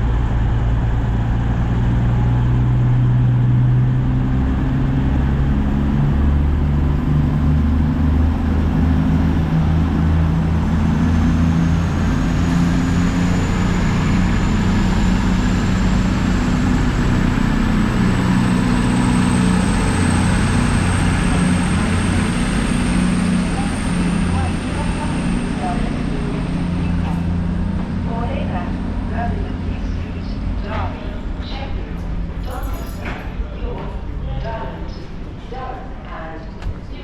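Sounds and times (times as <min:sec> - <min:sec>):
diesel train engine running: 0:00.0 - 0:37.0.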